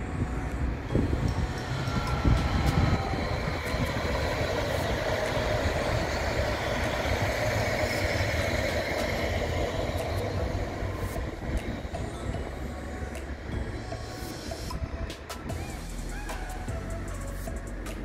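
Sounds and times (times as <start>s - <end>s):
faint whine: 0.0s - 18.0s
train wheels rumbling on rails: 0.0s - 18.0s.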